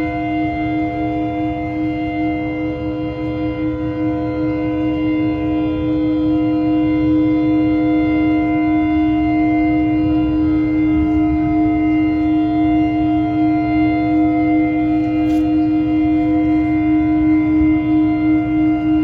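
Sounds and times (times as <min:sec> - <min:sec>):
low rumble: 0:00.0 - 0:19.0
ship horns blasting: 0:00.0 - 0:19.0.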